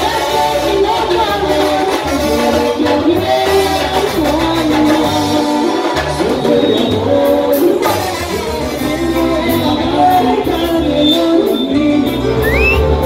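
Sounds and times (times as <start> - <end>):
bass: 0.0 - 13.0
brass section: 0.0 - 13.0
drum kit: 0.0 - 13.0
keyboards: 0.0 - 13.0.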